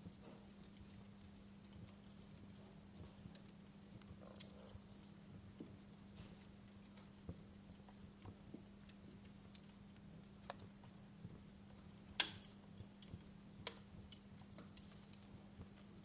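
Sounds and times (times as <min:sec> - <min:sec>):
steady low hum: 0:00.0 - 0:16.0
wood fire crackling: 0:00.0 - 0:16.0.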